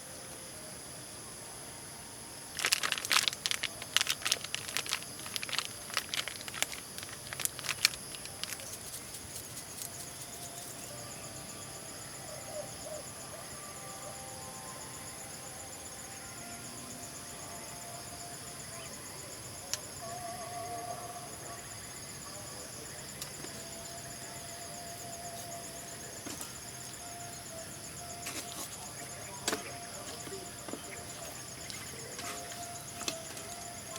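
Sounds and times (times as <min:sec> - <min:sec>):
insects chorus with pulsing trill: 0:00.0 - 0:33.9.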